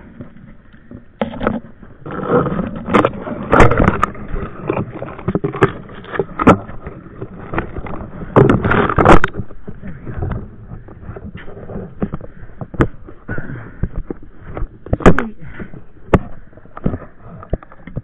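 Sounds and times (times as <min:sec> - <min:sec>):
branches scraping over camera: 0:00.0 - 0:15.2.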